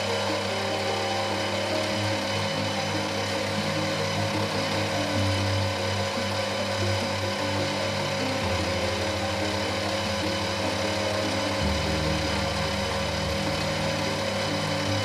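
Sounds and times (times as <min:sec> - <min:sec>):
machine tool motor humming: 0:00.0 - 0:15.0.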